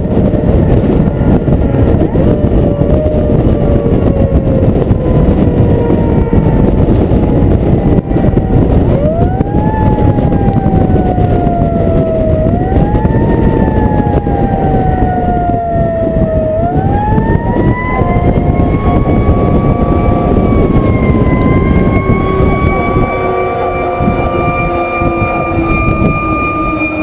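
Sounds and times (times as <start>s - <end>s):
fire truck siren wailing: 0.0s - 27.0s
wind and road noise: 0.0s - 27.0s.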